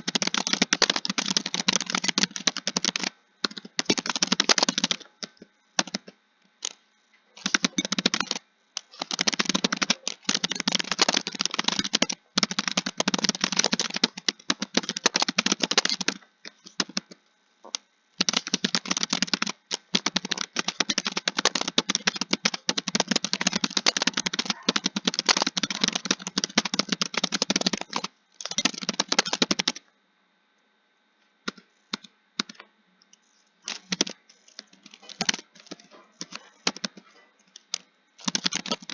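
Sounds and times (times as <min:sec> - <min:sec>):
fast typing on keyboard: 0:00.0 - 0:06.8, 0:07.4 - 0:17.2, 0:18.2 - 0:29.8, 0:31.5 - 0:32.6, 0:33.7 - 0:38.9.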